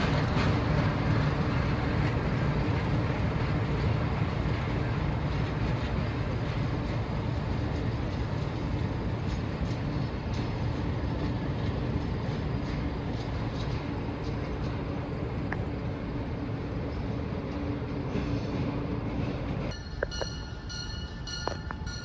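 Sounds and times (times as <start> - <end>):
diesel locomotive engine rumble: 0.0 - 22.0
rail noise: 0.0 - 22.0.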